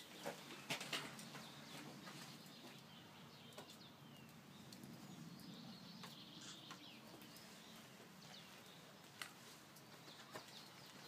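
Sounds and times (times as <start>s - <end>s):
birdsong chirping: 0.0s - 11.0s.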